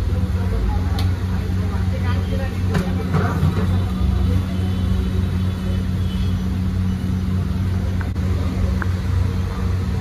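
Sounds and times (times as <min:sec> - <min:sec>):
cooking burner humming: 0:00.0 - 0:10.0.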